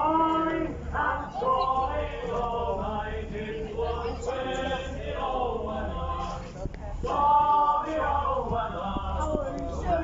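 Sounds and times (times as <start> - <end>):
men chanting together: 0.0 - 6.4, 7.1 - 10.0
steady low hum: 0.0 - 10.0.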